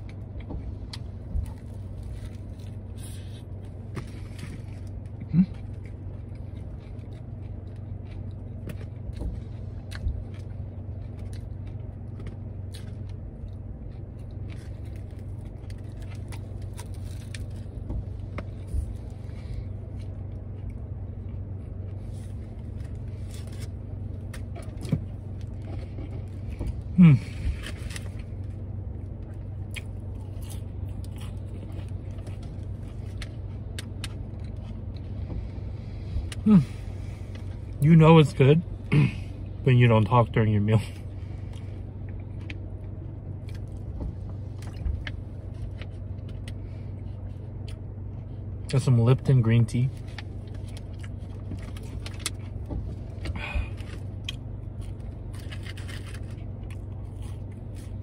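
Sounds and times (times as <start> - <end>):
chewing crispy food: 0.0 - 48.7, 49.7 - 58.0
low hum inside car: 0.0 - 58.0.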